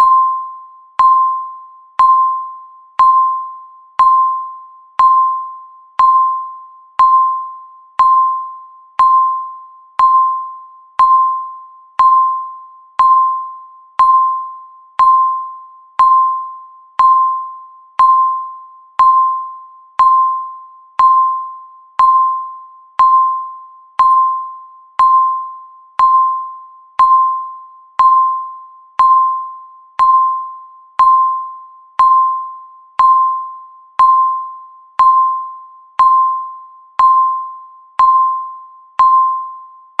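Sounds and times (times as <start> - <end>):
countdown timer beeping: 0.0 - 39.7.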